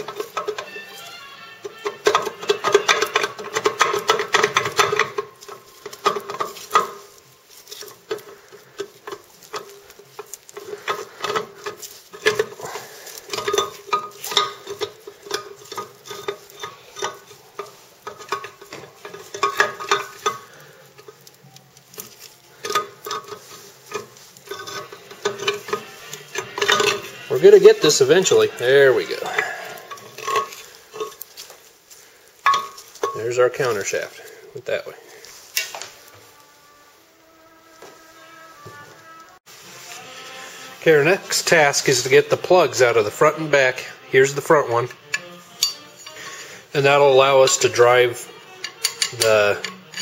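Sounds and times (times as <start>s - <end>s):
metal gears clinking and rattling: 0.0s - 31.8s, 32.4s - 34.3s, 41.1s - 50.0s.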